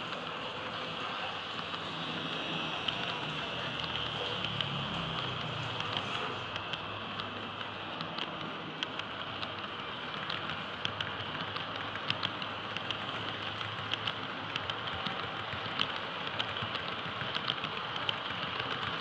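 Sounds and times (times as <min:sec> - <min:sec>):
model train rolling with clicks: 0:00.0 - 0:19.0.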